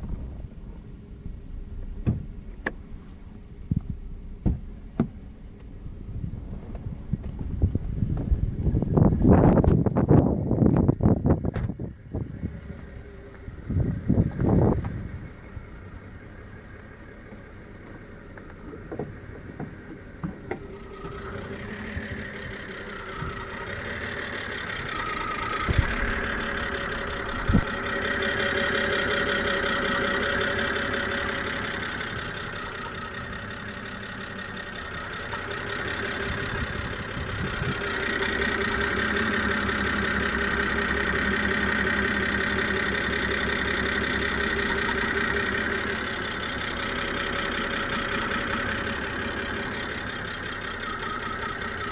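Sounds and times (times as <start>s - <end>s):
car engine idling with misfire: 0.0s - 51.9s.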